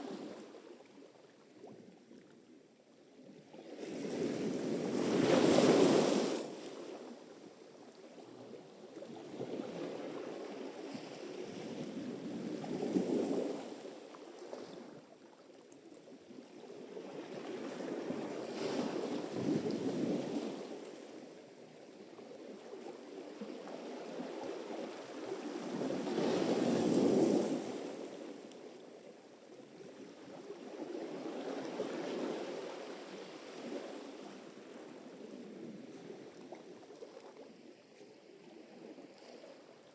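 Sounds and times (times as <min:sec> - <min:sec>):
waves breaking and washing in: 0:00.0 - 0:01.8, 0:03.4 - 0:15.2, 0:16.0 - 0:39.9.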